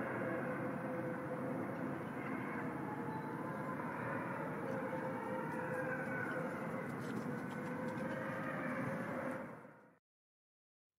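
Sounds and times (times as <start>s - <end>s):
wolves howling: 0.0s - 9.9s.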